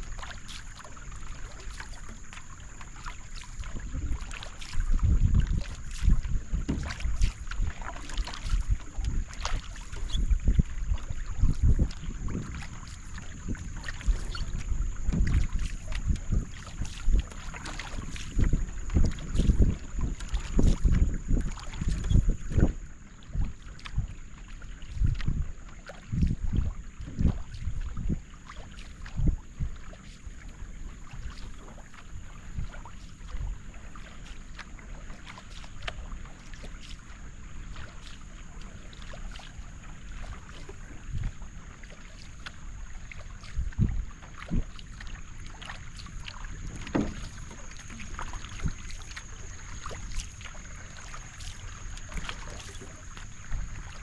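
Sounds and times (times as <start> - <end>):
paddle strokes in water: 0.0 - 54.0
wake hissing along hull: 0.0 - 54.0
water dripping and splashing: 0.0 - 54.0.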